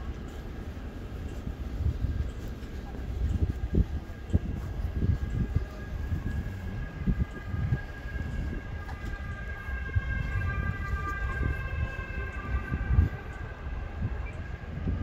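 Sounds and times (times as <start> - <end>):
passing vehicle whine: 0.0 - 15.0
vehicle low rumble: 0.0 - 15.0.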